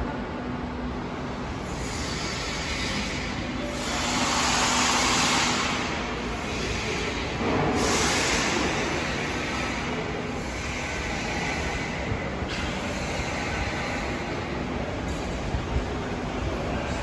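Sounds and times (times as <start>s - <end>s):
air compressor running: 1.2s - 15.4s.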